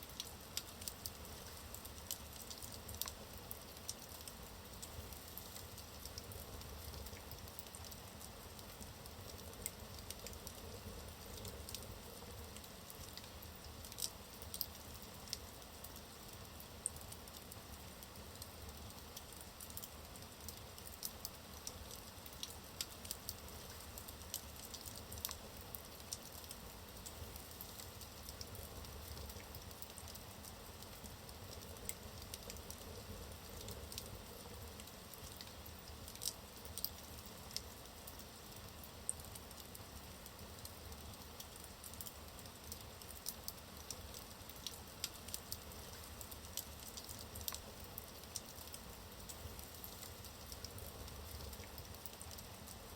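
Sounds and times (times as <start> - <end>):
logs crackling and popping: 0.1 - 17.6, 18.5 - 52.7.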